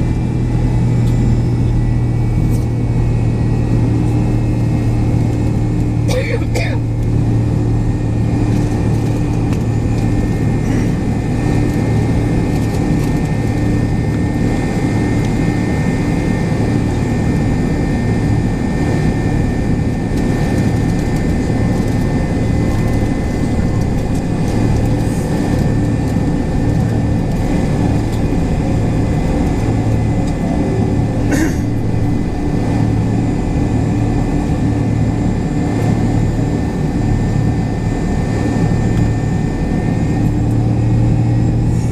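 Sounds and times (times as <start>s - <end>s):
jet engines roaring in cabin: 0.0s - 41.9s.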